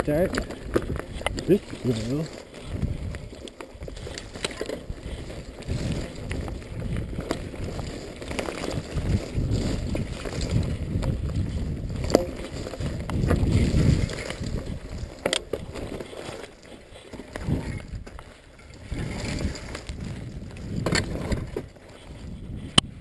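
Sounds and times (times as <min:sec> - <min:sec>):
wind buffeting microphone: 0:00.0 - 0:16.5, 0:17.2 - 0:23.0
bike clicks and rattles: 0:00.0 - 0:23.0
tyres rumbling over dirt: 0:00.0 - 0:23.0.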